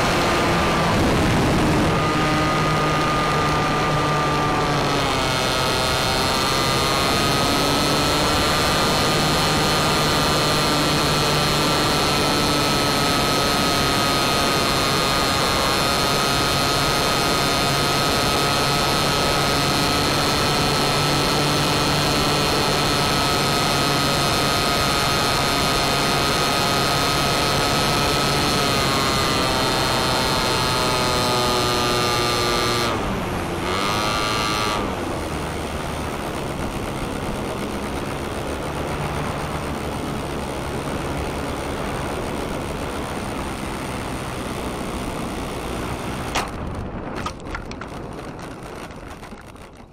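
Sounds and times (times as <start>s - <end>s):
model plane motor whining: 0.9s - 46.6s.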